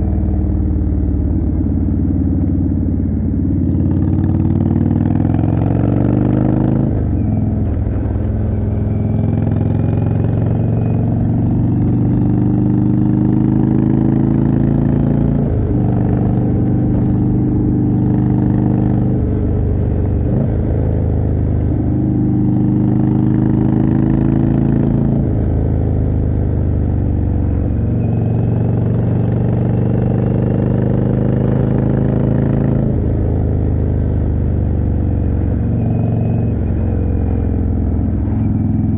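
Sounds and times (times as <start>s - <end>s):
motorcycle engine under way: 0.0s - 38.9s.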